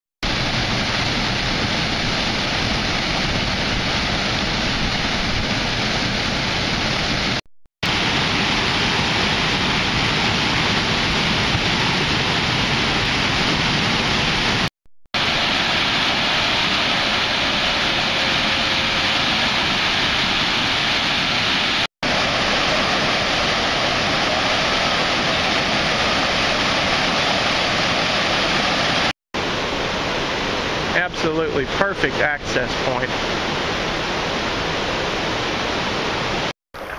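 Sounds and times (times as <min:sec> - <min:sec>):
river water rushing over weir: 0:00.3 - 0:36.9.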